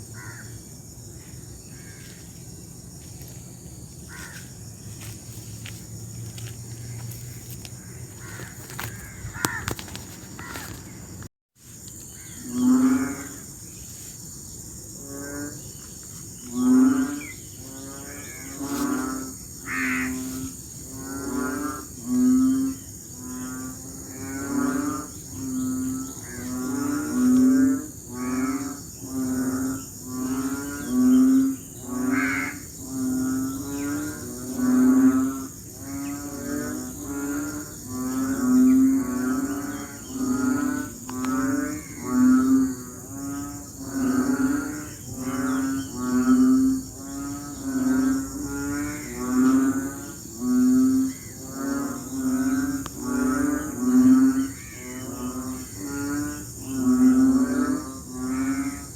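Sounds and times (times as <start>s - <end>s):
deep bellowing frog calls: 0.0s - 11.3s, 11.9s - 13.8s, 14.4s - 58.9s
frogs calling: 0.0s - 58.9s
high insect chorus: 0.0s - 58.9s.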